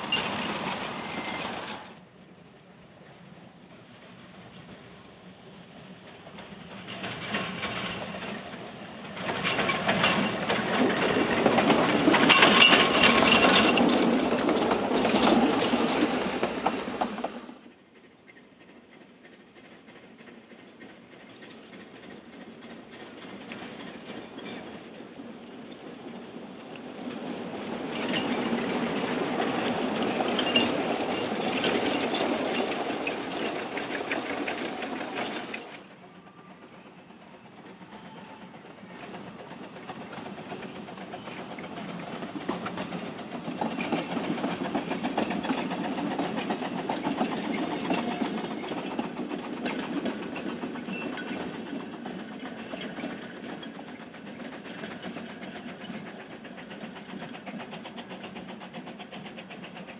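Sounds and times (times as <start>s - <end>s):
wheels clicking over rail joints: 0.0s - 2.1s, 6.0s - 25.0s, 25.6s - 59.9s.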